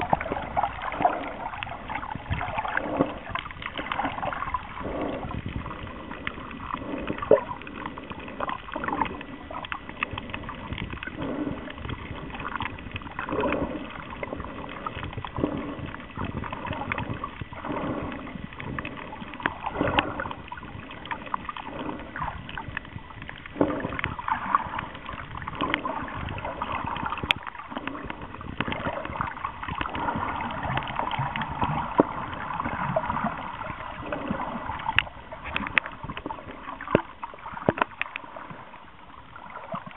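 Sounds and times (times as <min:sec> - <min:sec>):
underwater sloshing and gurgling: 0:00.0 - 0:39.9.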